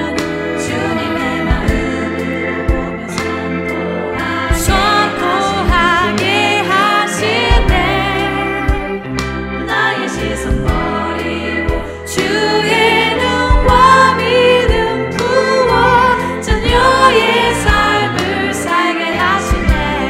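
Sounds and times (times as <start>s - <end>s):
song with wavering sung melody: 0.0s - 20.0s.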